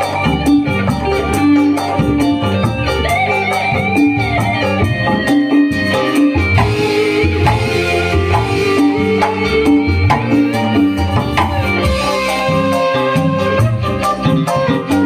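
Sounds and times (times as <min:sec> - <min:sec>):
bass line: 0:00.0 - 0:15.0
hand drum rhythm: 0:00.0 - 0:15.0
sustained melody instruments: 0:00.0 - 0:15.0.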